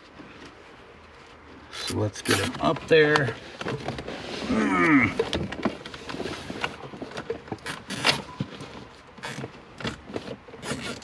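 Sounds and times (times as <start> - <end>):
wiring and plastic rustling: 0.0 - 11.0.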